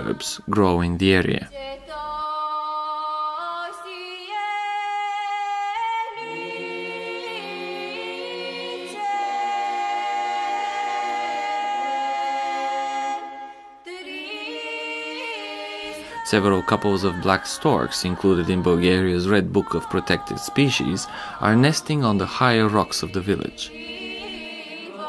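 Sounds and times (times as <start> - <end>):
voices singing in harmony: 0.0 - 0.6, 1.6 - 25.0.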